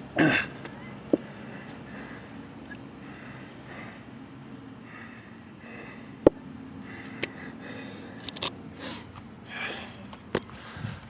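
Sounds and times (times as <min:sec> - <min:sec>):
man breathing hard: 0:01.2 - 0:04.2, 0:04.8 - 0:11.0.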